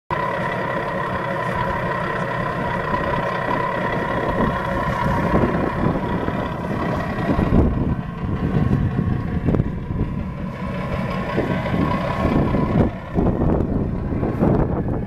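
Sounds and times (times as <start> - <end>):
model tractor motor whining: 0.2 - 15.0.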